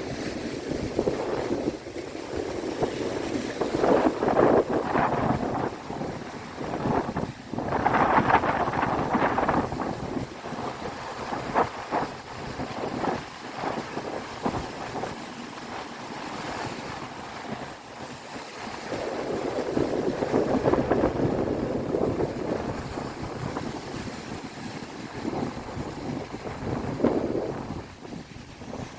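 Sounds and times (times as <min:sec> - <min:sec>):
sea waves washing onto shore: 0:00.0 - 0:28.9
wind buffeting microphone: 0:00.0 - 0:28.9.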